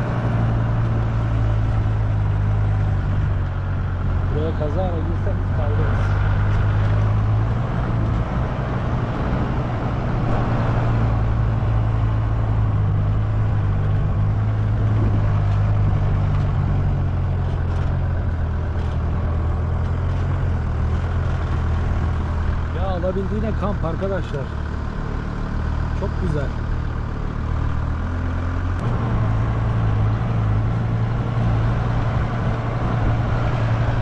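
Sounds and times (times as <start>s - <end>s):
motorhome engine running: 0.0s - 34.0s.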